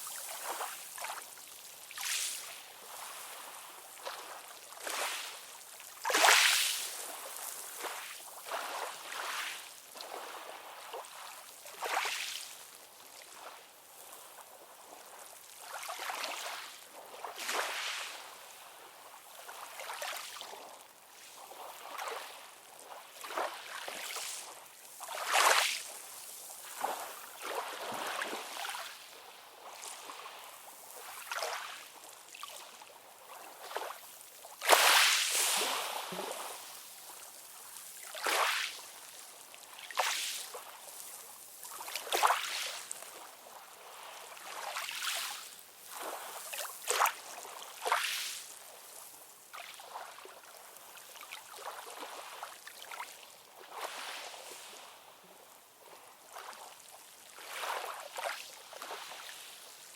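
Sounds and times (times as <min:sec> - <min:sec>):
sea water lapping and splashing: 0:00.0 - 0:59.9.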